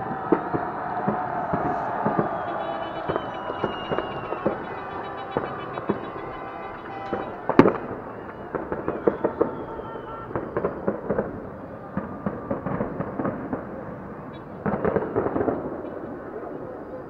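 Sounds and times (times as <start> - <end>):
fireworks bangs and crackle: 0.0 - 17.0.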